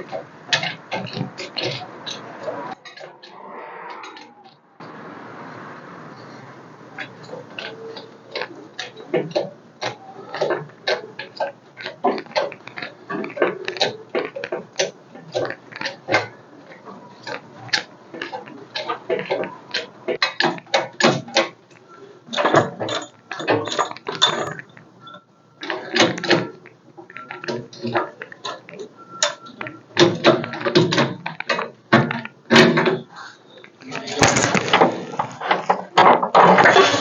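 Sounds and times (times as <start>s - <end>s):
crane pump clicking and creaking: 0.0s - 3.4s, 4.0s - 37.0s.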